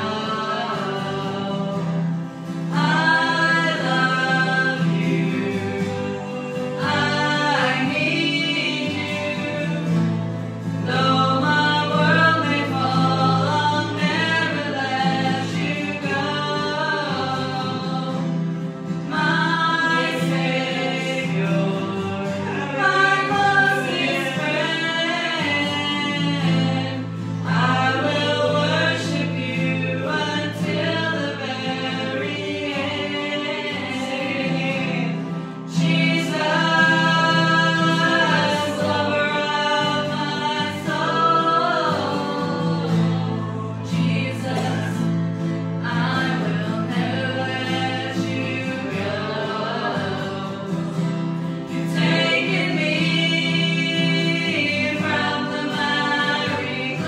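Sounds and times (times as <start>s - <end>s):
acoustic guitar: 0.0s - 57.0s
women singing: 0.0s - 57.0s.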